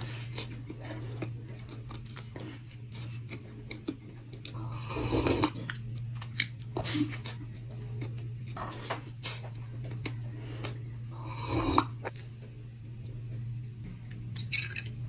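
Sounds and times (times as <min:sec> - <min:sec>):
close chewing of cookie: 0:00.0 - 0:15.0
steady low hum: 0:00.0 - 0:15.0.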